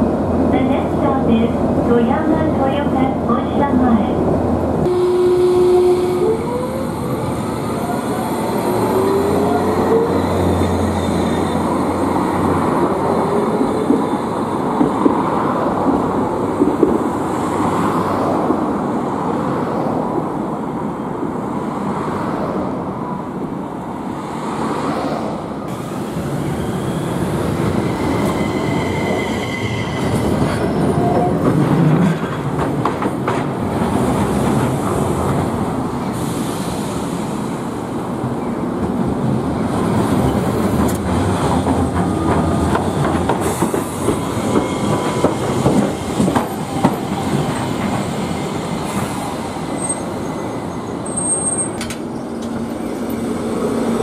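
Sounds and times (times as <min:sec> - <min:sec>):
tram wheels rolling on rails: 0:04.8 - 0:20.5, 0:23.4 - 0:54.0.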